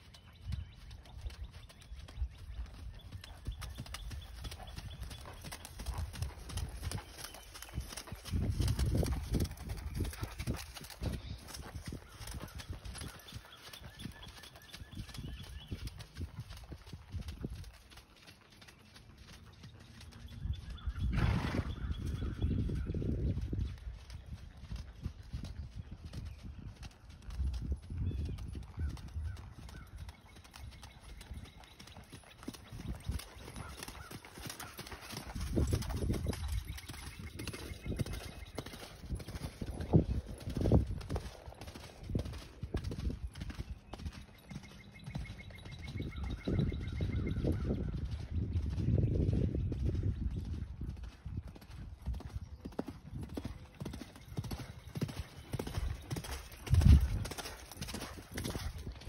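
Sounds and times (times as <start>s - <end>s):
horse hoofbeats on sand: 0.0s - 22.4s, 29.7s - 59.0s.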